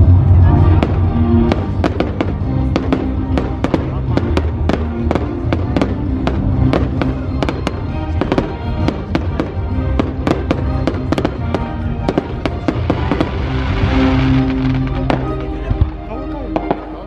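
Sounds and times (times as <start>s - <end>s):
music playing: 0.0s - 17.0s.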